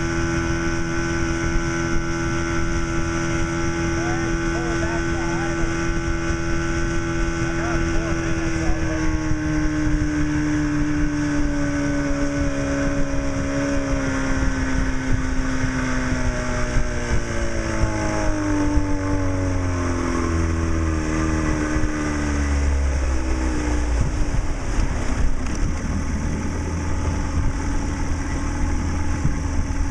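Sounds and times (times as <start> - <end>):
outboard motor running: 0.0 - 29.9.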